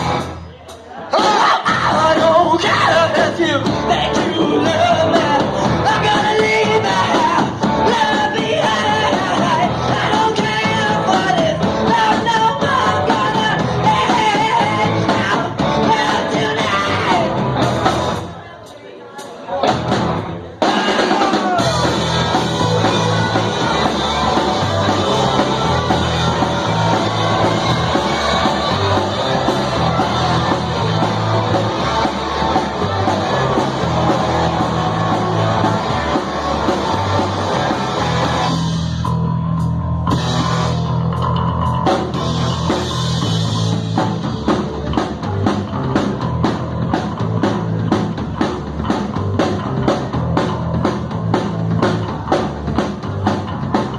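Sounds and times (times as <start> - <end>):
punk band playing: 0.0 - 53.9.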